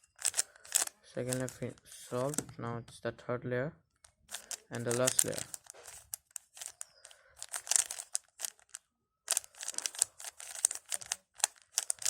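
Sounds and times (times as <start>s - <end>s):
puzzle cube plastic clicking: 0.1s - 2.6s, 3.9s - 12.0s.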